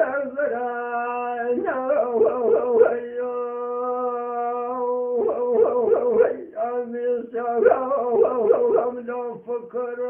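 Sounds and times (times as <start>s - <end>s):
man singing long notes: 0.0s - 10.0s.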